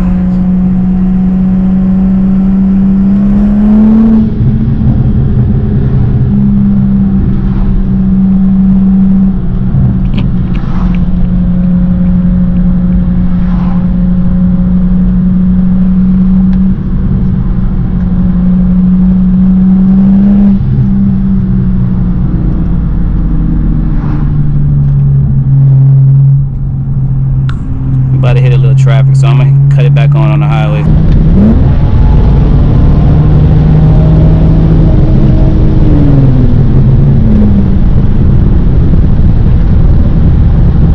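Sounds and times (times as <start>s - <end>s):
car engine droning in cabin: 0.0s - 40.9s.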